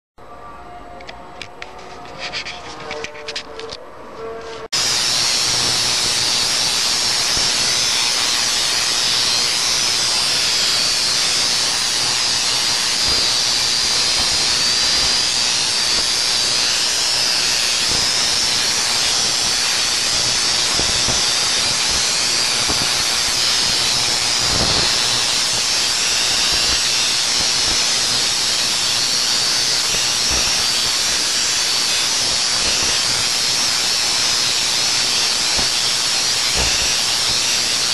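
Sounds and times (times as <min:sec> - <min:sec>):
tesla coil spark crackle: 0:04.8 - 0:37.9.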